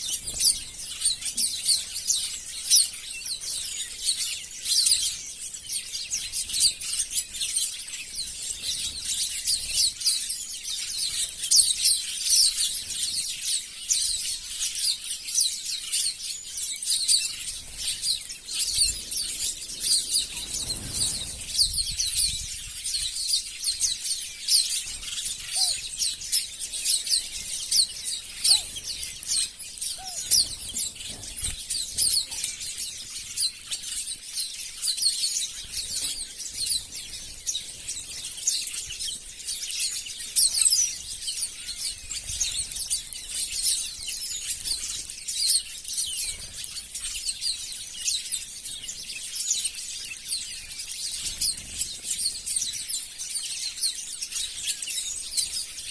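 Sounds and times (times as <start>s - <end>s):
flock of small birds chirping: 0.0s - 55.9s.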